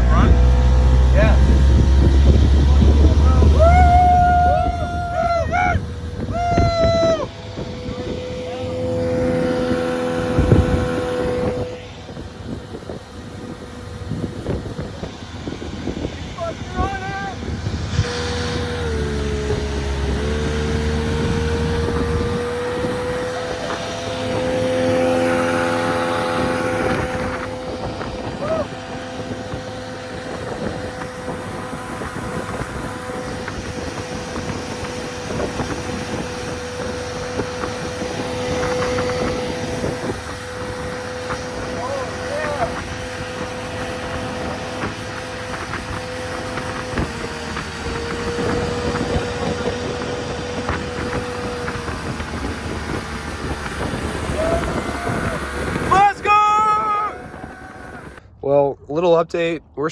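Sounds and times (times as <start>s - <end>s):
low water splashing: 0.0s - 58.3s
outboard motor drone: 0.0s - 58.4s
wind rumble on microphone: 0.0s - 59.9s.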